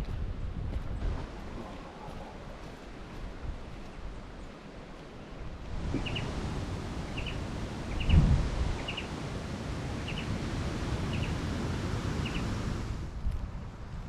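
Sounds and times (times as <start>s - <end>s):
rushing hiss of outdoor noise: 1.0s - 13.9s.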